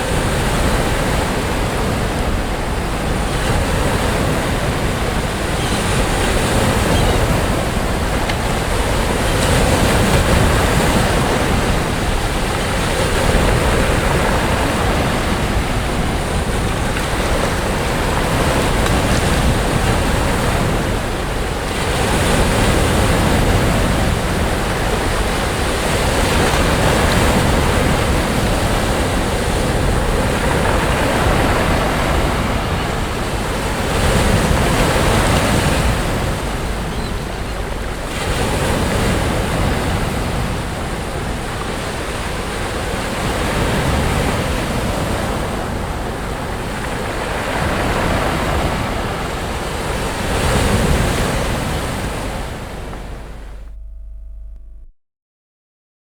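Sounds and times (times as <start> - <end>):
sea waves breaking on a beach: 0.0 - 53.9.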